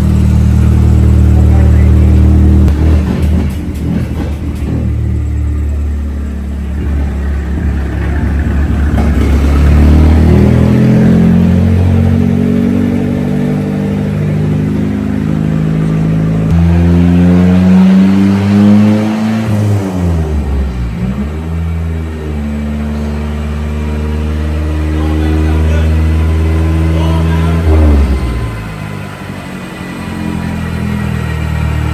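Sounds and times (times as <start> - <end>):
pickup engine revving under load: 0.0 - 31.9.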